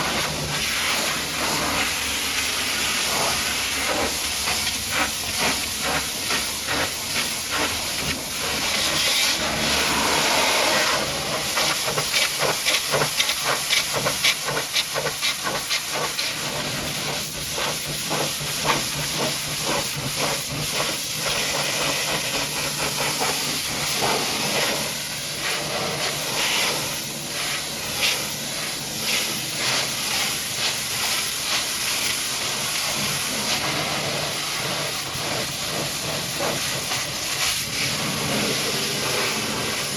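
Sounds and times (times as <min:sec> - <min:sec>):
pressure washer water jet spraying: 0:00.0 - 0:39.9.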